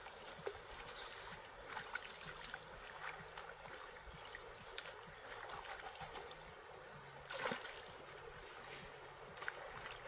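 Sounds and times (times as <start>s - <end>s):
stream water sloshing: 0.0s - 10.0s.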